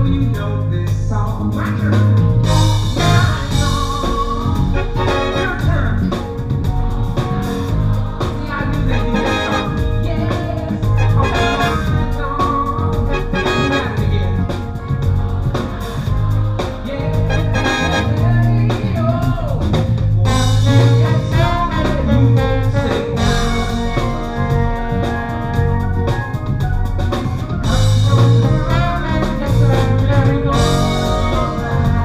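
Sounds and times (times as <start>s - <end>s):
live band playing: 0.0s - 32.0s
brass section: 2.5s - 18.8s, 20.3s - 26.9s, 27.6s - 32.0s.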